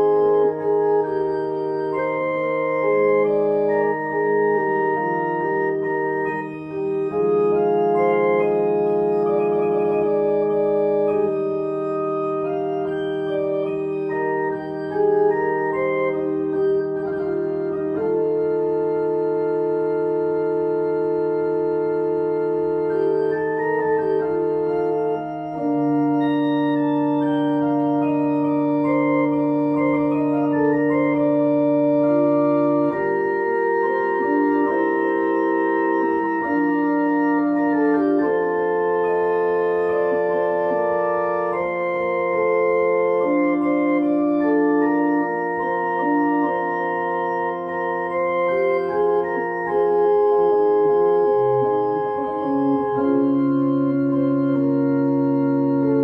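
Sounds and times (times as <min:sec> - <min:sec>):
slow organ-like keyboard music: 0:00.0 - 0:56.0.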